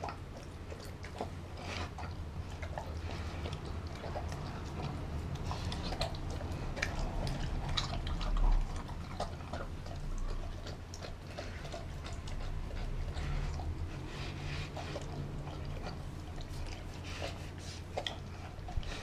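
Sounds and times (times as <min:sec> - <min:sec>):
dog chewing and licking: 0:00.0 - 0:19.0.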